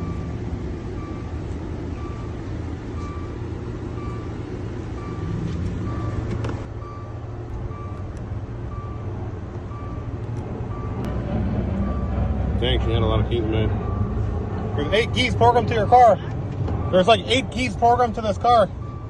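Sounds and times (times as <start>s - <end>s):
car warning chime beeping: 0.0s - 11.1s, 14.8s - 19.0s.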